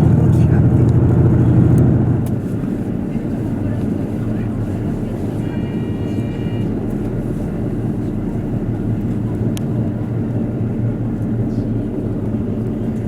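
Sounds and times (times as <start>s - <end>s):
train engine and wheel rumble: 0.0s - 13.0s.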